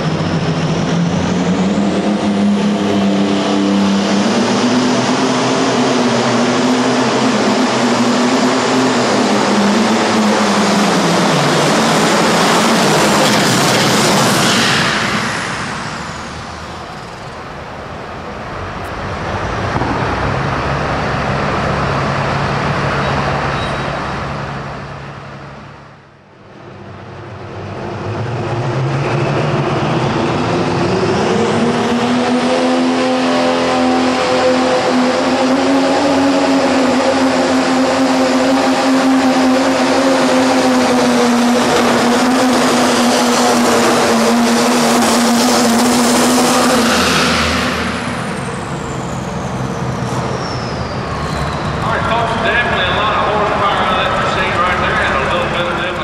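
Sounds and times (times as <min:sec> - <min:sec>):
diesel tractor engine at full throttle: 0:00.0 - 0:56.0
high-revving engine whine: 0:00.0 - 0:56.0.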